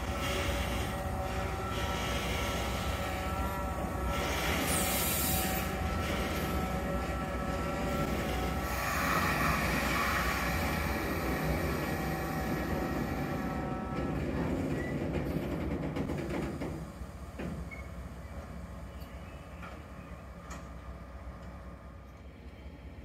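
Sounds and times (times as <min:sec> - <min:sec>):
wagons rumbling on track: 0:00.0 - 0:21.9
diesel locomotive engine running: 0:00.0 - 0:23.0.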